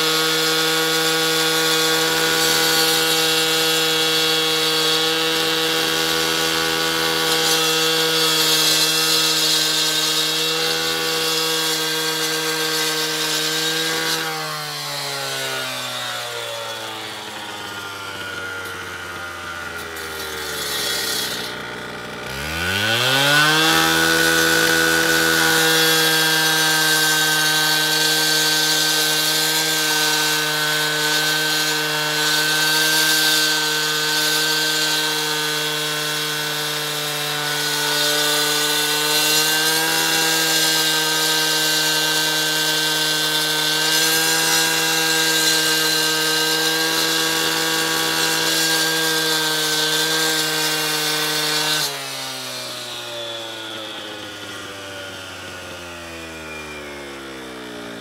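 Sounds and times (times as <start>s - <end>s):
cut-off saw cutting concrete: 0.0s - 58.0s.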